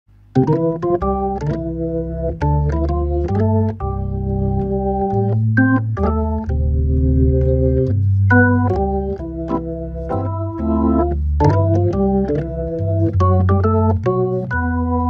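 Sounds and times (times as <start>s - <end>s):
organ playing jazz waltz: 0.3s - 15.0s.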